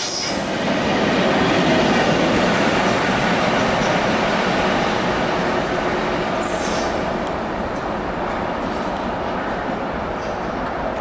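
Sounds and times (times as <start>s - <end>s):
locomotive wheels rushing on rail: 0.0s - 11.0s.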